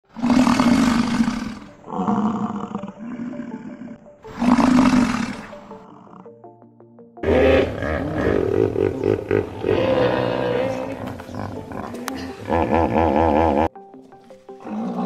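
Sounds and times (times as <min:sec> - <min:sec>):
cow mooing: 0:00.1 - 0:06.4, 0:07.2 - 0:13.7.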